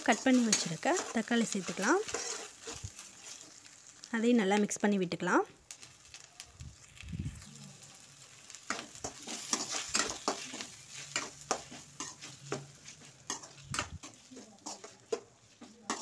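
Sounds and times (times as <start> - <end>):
spatula scraping a pan: 0.0 - 3.8, 6.9 - 16.0
oil sizzling: 0.0 - 16.0.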